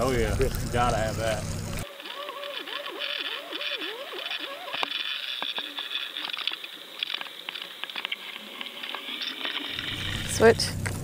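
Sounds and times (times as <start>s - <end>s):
scattered clicks: 0.1s - 11.0s
wavering rising and falling tone: 1.2s - 10.7s.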